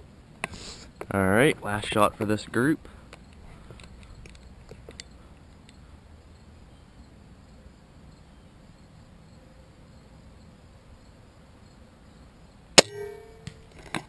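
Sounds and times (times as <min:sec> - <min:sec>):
crickets and insects trilling: 0:00.0 - 0:13.9.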